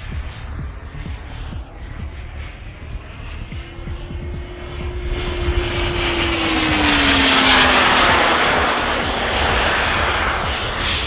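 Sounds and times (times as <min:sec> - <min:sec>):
jet turbine rushing overhead: 0:00.0 - 0:11.0
steady tone dropping in pitch: 0:00.0 - 0:11.0.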